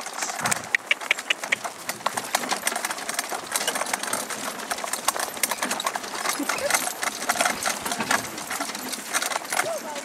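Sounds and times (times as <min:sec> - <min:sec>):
harness and sledge rattling: 0:00.0 - 0:10.0
hoofbeats on snow: 0:00.0 - 0:10.0.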